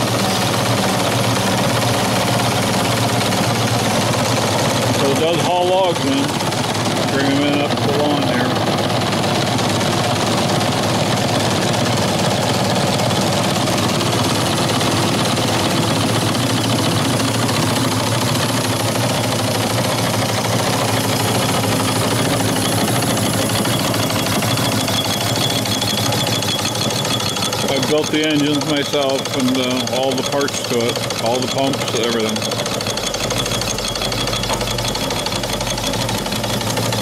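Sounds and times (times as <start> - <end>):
steam engine exhaust beats: 0.0 - 37.0.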